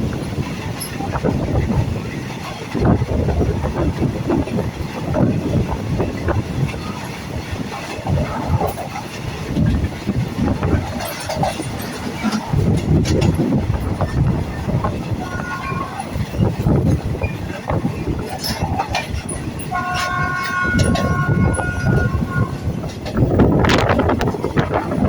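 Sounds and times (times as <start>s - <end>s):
train rumbling: 0.0s - 25.0s
wheels clattering on rails: 0.0s - 25.0s.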